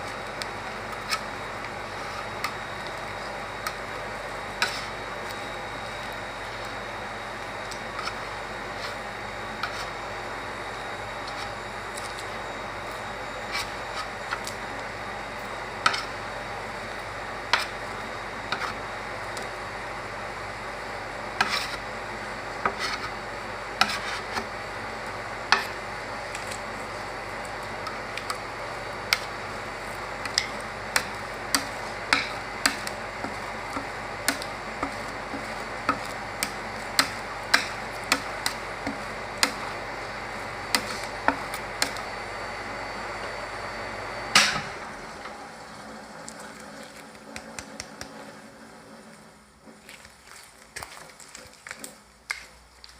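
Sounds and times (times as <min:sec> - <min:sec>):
steady machine hum: 0:00.0 - 0:50.5.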